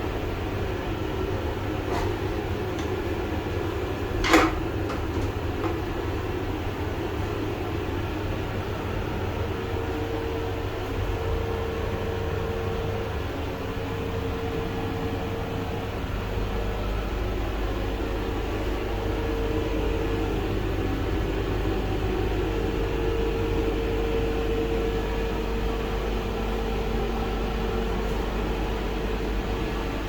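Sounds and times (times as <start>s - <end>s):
mid-pitched hum: 0.0s - 30.0s
train coach low rumble: 0.0s - 30.0s.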